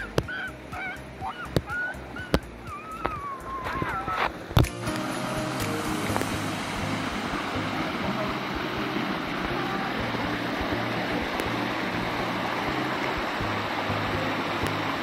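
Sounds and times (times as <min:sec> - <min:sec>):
creek water rushing over cascades: 0:00.0 - 0:15.0.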